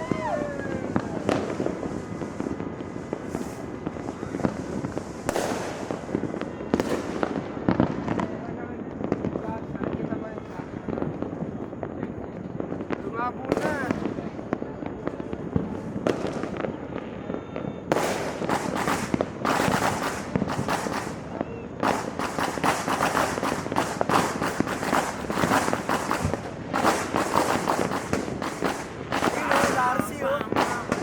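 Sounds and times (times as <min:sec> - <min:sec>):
fireworks and firecrackers banging: 0:00.0 - 0:31.0.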